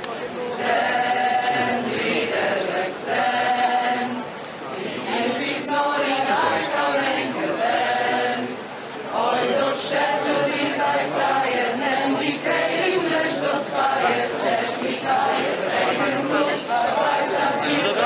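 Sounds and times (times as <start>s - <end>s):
choir singing unaccompanied: 0.2s - 18.0s.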